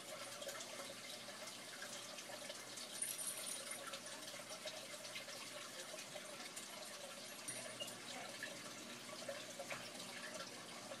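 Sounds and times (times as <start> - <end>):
aquarium water trickling: 0.0 - 11.0.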